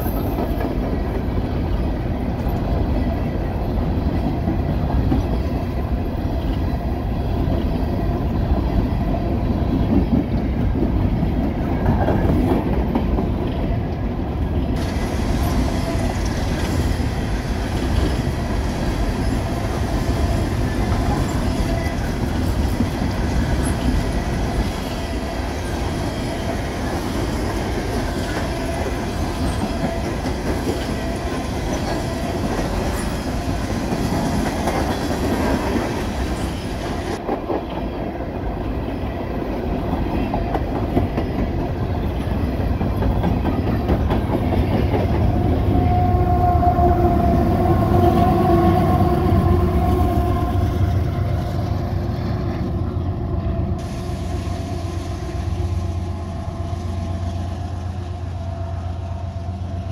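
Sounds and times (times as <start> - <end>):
freight train wheels rumbling: 0.0 - 59.9
train clickety-clack: 0.0 - 59.9.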